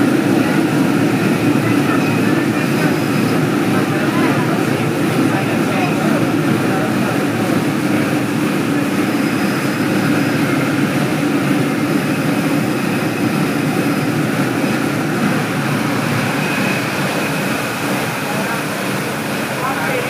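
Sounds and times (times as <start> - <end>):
train engine drone: 0.0 - 20.0.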